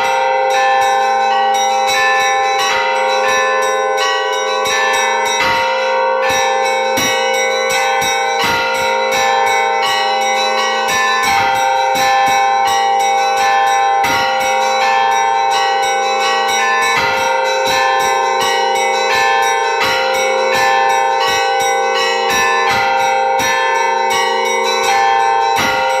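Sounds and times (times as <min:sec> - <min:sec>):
large bells ringing: 0:00.0 - 0:26.0
small church bells struck rapidly: 0:00.0 - 0:26.0.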